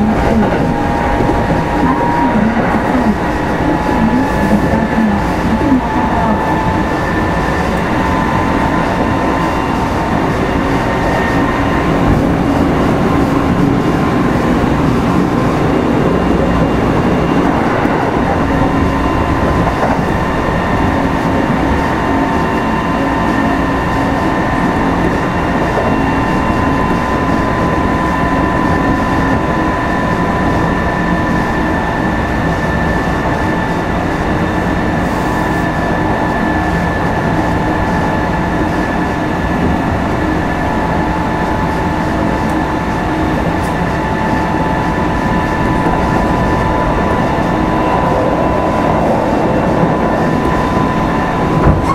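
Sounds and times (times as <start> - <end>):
wheels rumbling on rail: 0.0 - 51.9.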